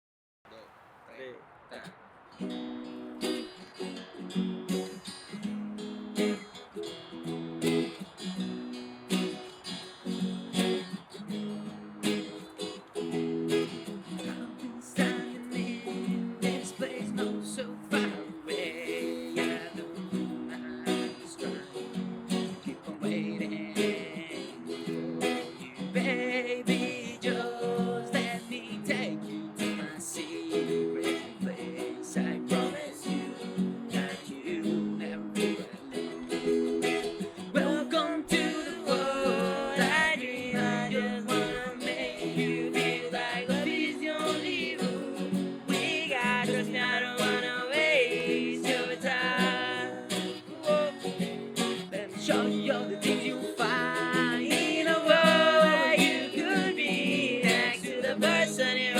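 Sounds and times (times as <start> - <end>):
acoustic guitar strummed and picked: 2.3 - 58.9
person singing: 10.6 - 58.9.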